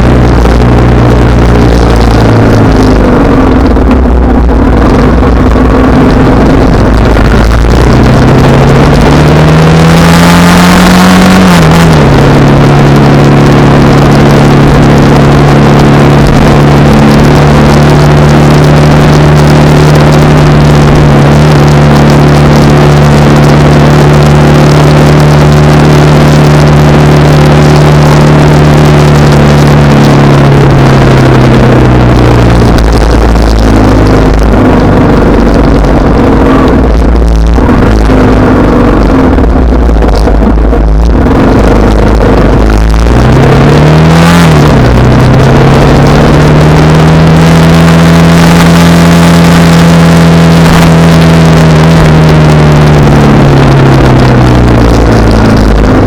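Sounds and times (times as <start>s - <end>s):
motorcycle engine revving: 0.0s - 56.0s
wind rumble on microphone: 0.0s - 56.0s.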